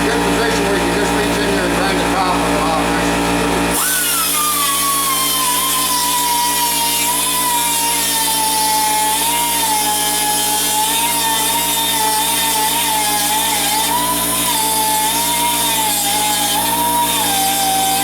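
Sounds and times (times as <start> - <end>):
grinder whining on steel: 0.0 - 18.0.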